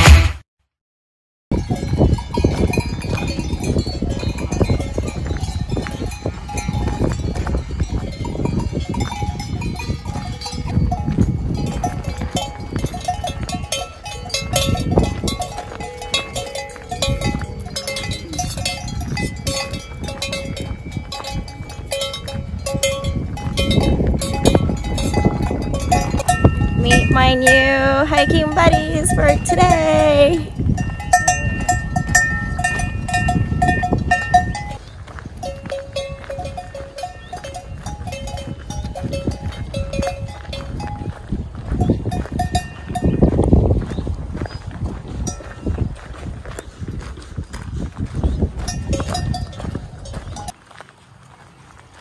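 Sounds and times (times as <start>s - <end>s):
livestock bells ringing: 1.5s - 43.6s, 45.2s - 45.8s, 48.6s - 50.6s.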